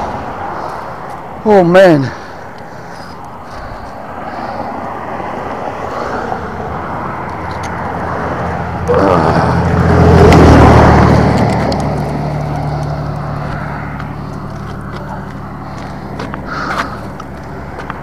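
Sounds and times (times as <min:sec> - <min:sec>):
car passing: 0:00.0 - 0:18.0.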